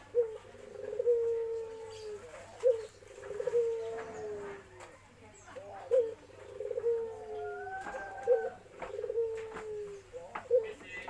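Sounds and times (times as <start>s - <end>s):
dove cooing: 0.0s - 4.8s, 5.4s - 11.0s.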